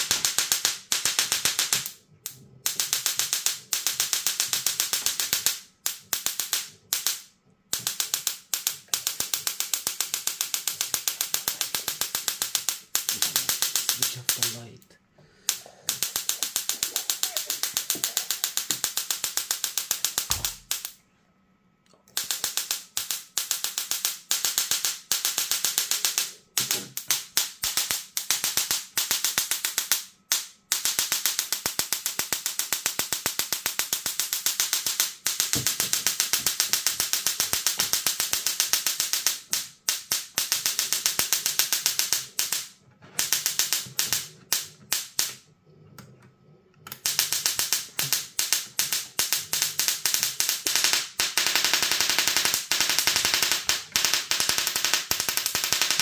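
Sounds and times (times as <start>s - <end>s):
tesla coil buzzing and crackling: 0.0s - 14.8s, 15.5s - 21.0s, 22.1s - 45.5s, 46.8s - 56.0s.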